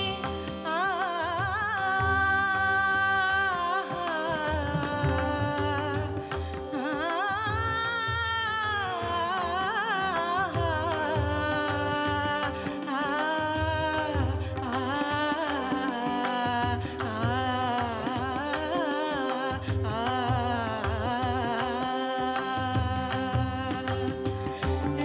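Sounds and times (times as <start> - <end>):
person singing devotional song: 0.0 - 25.0.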